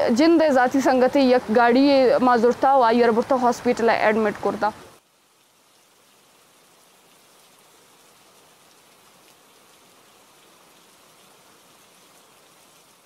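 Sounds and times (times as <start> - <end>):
light rain on wet street: 0.0 - 13.0.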